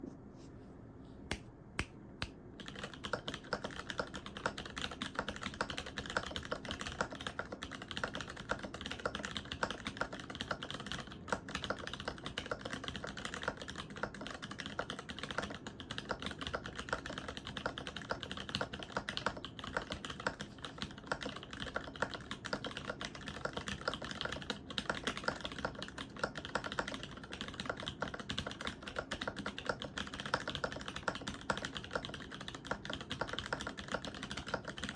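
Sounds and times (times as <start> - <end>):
typing on mechanical keyboard: 2.6 - 34.9.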